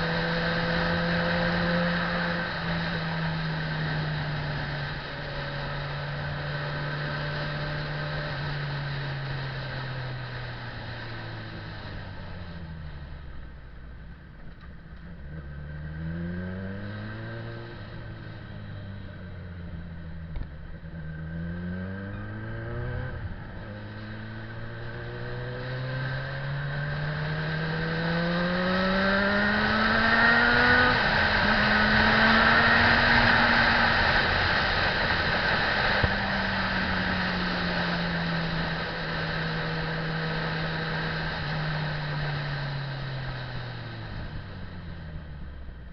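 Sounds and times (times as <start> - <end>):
motorcycle engine accelerating: 0.0 - 45.9
wind and road noise: 0.0 - 45.9.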